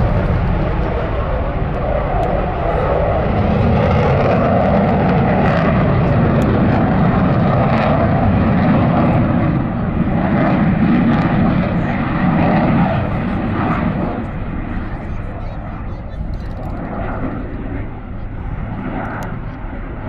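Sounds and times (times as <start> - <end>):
fighter jet roaring past: 0.0 - 20.0.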